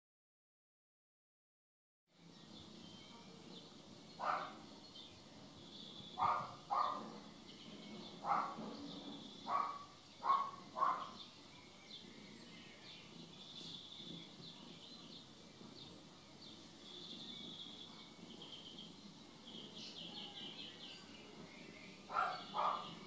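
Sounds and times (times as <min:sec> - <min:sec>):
faint birdsong: 0:02.1 - 0:23.0.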